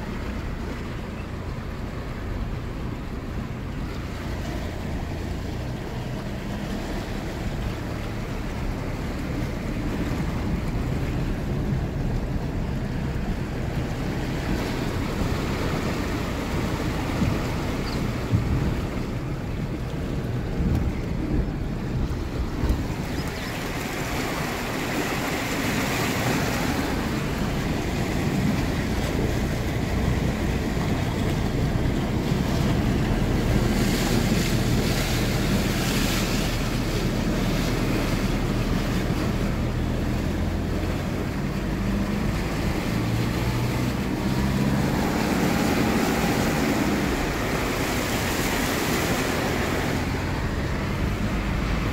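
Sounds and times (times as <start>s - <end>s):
engine low hum: 0.0s - 51.9s
water rushing and splashing: 0.0s - 51.9s.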